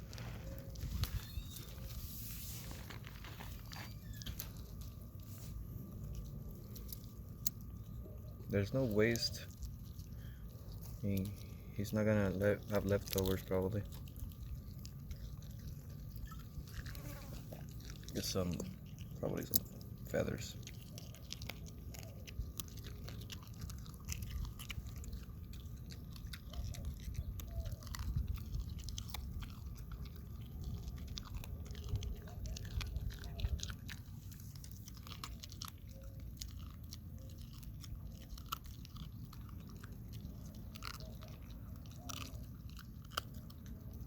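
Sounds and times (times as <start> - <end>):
dog chewing with crunches: 0.0 - 44.0.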